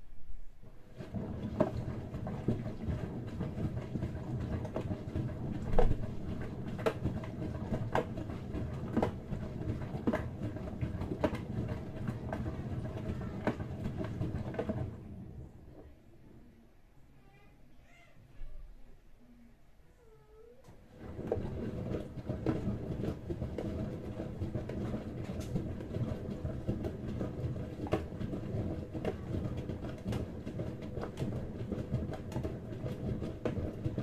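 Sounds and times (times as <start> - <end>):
washing machine drum tumbling: 0.6 - 15.7, 20.8 - 34.0.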